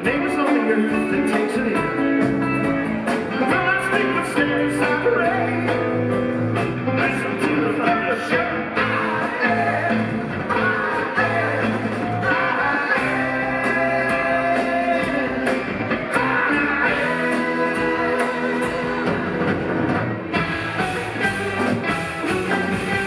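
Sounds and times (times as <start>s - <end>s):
bass: 0.0s - 23.0s
drums and cymbals: 0.0s - 23.0s
electric guitar: 0.0s - 23.0s
keyboards: 0.0s - 23.0s.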